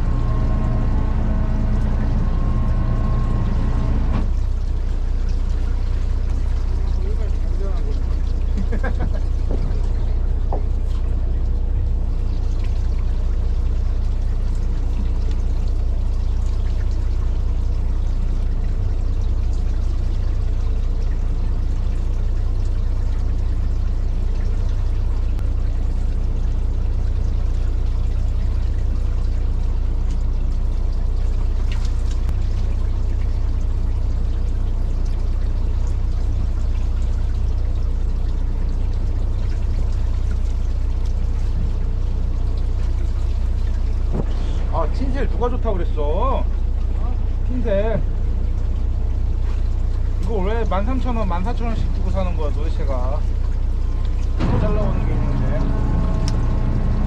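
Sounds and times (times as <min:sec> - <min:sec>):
boat engine humming: 0:00.0 - 0:57.0
water sloshing against hull: 0:00.0 - 0:57.0.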